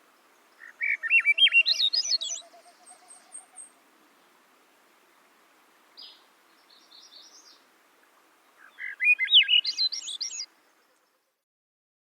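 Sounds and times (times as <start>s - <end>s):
faint steady hiss: 0.0s - 11.4s
songbird singing: 0.0s - 11.4s.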